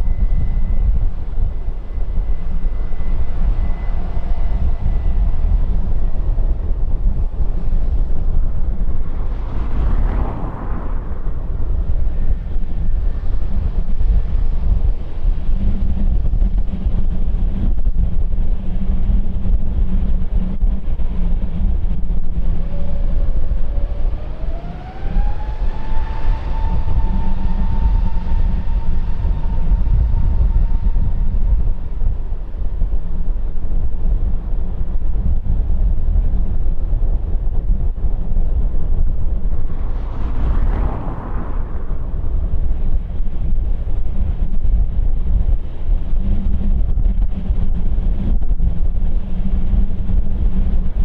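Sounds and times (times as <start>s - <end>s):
jet engine whine: 0.0s - 51.0s
jet engines rumbling: 0.0s - 51.0s.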